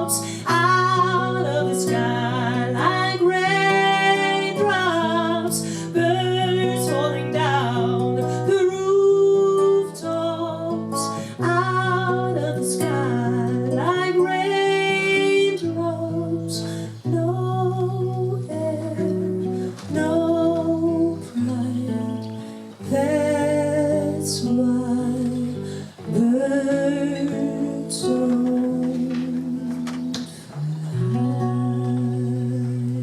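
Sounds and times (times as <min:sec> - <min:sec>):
acoustic guitar: 0:00.0 - 0:33.0
woman singing: 0:00.0 - 0:33.0.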